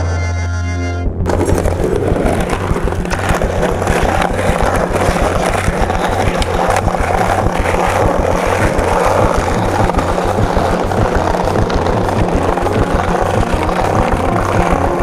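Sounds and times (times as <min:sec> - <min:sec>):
music with low bass pulse: 0:00.0 - 0:15.0
dense rumbling noise: 0:00.9 - 0:15.0.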